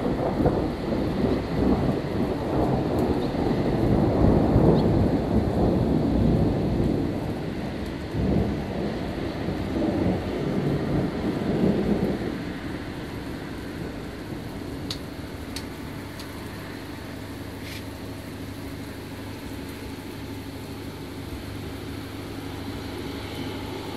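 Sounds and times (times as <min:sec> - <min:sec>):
steady rain hiss: 0:00.0 - 0:23.9
thunder rumble: 0:00.0 - 0:23.9.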